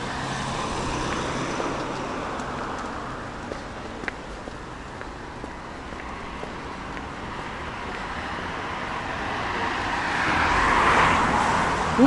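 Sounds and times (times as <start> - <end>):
car approaching: 0.0 - 12.0.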